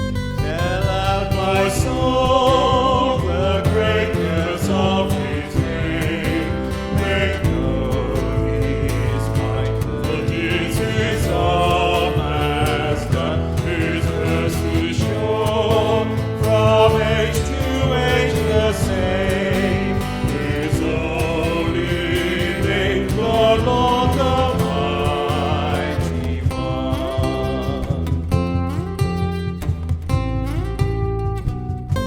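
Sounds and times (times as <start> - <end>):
acoustic guitar strumming: 0.0 - 32.0
person singing a hymn: 0.5 - 28.2.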